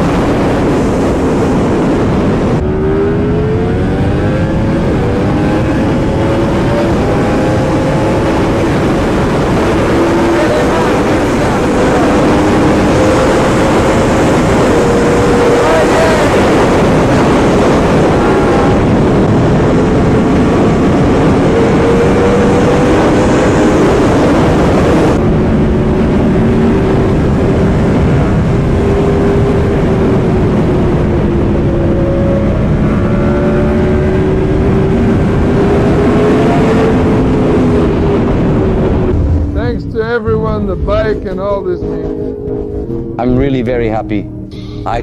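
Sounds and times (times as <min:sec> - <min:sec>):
motorcycle engine cruising: 0:00.0 - 0:45.0
rushing wind noise: 0:00.0 - 0:45.0.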